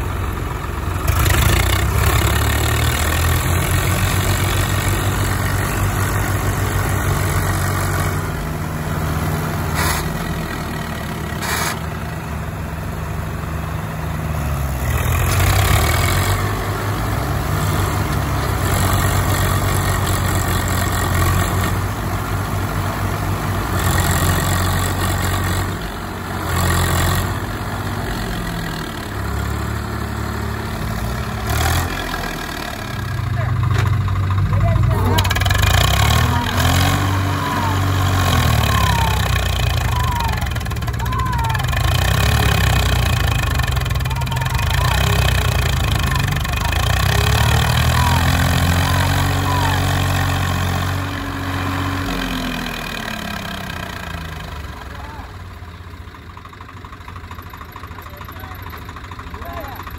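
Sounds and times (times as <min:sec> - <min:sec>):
tractor diesel engines straining: 0:00.0 - 0:59.9.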